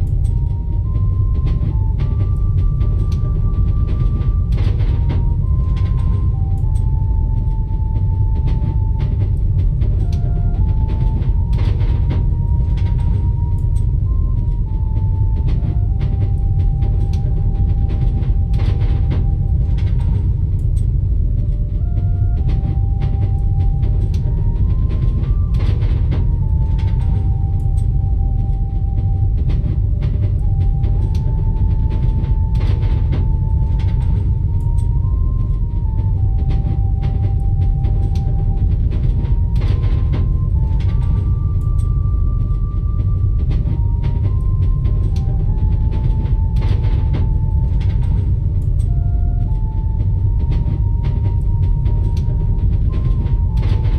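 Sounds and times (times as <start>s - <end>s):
faint clicks and rattles: 0.0s - 53.9s
train carriage rumble: 0.0s - 53.9s.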